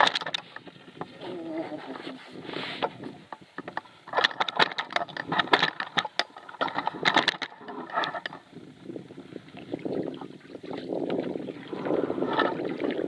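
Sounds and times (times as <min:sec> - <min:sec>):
gear clicking and knocking in canoe: 0:00.0 - 0:08.6, 0:09.4 - 0:13.0.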